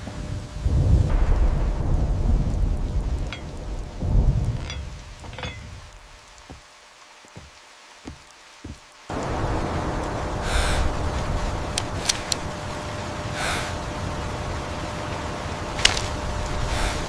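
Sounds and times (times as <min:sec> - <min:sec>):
thunder rumbling: 0:00.0 - 0:06.6, 0:09.1 - 0:17.0
steady rushing hiss: 0:00.0 - 0:17.0.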